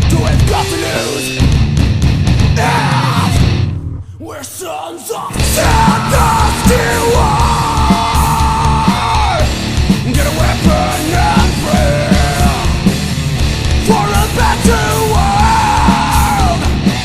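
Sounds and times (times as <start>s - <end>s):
distorted guitars: 0.0s - 4.2s, 5.2s - 17.0s.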